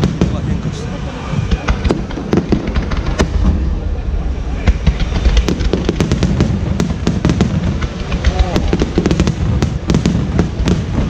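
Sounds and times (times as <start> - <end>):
fireworks bangs and crackles: 0.0 - 11.0
low rumble of booms: 0.0 - 11.0.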